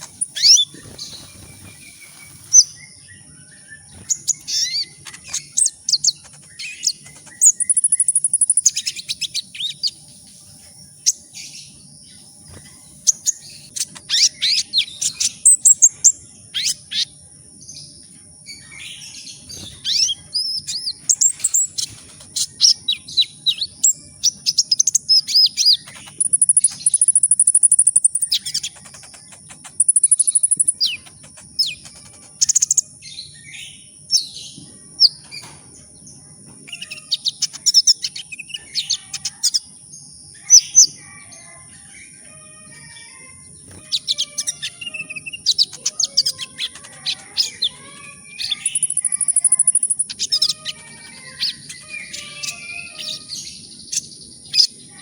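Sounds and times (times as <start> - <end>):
small bird chirping and trilling: 0.0 - 35.6, 36.2 - 55.0.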